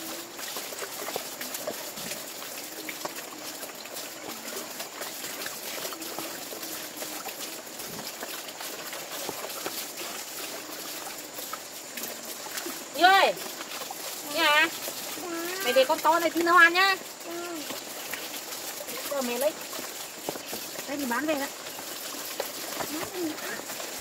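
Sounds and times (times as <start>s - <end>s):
small splashes: 0.0s - 24.0s
water sloshing in plastic basin: 0.0s - 24.0s.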